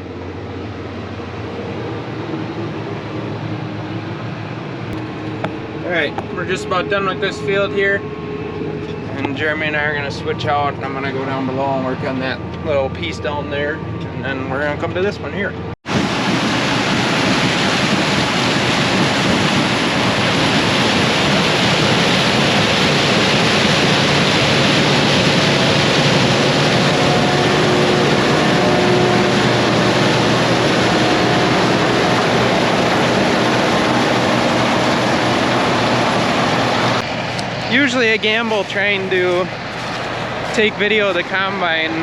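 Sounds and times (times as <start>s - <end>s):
combine harvester roaring: 0.0s - 42.0s.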